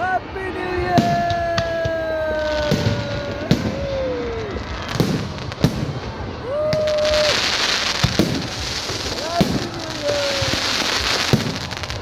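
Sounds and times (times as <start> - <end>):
people whooping and shouting: 0.0 - 12.0
firework bangs: 0.2 - 12.0
firework crackling hiss: 0.8 - 12.0.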